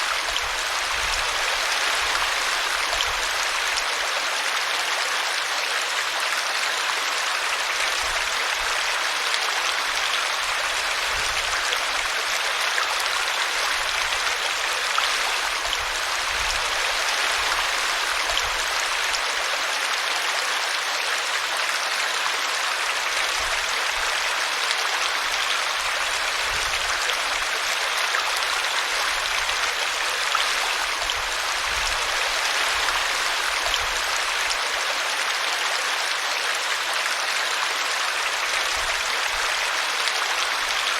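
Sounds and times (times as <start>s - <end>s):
brook water flowing and gurgling: 0.0s - 40.9s.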